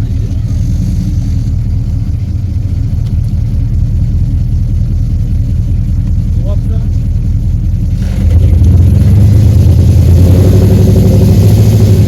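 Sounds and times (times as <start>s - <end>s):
engine rumbling at low speed: 0.0s - 12.0s.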